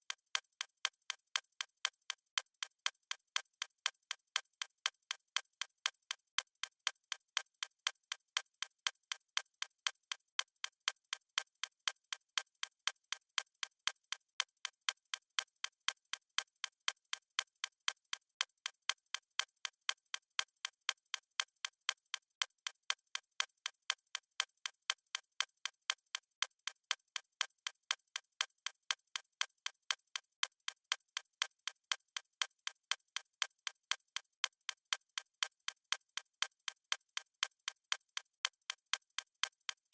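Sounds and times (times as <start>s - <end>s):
stopwatch ticking: 0.0s - 39.9s.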